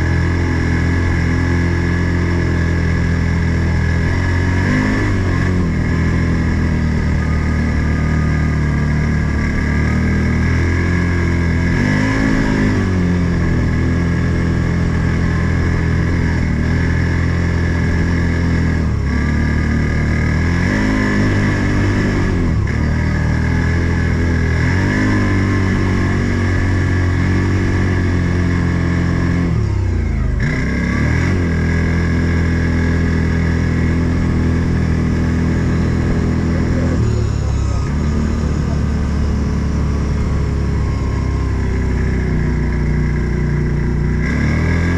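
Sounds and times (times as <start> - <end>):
off-road vehicle engine running: 0.0 - 44.9
steady high whine: 0.0 - 44.9.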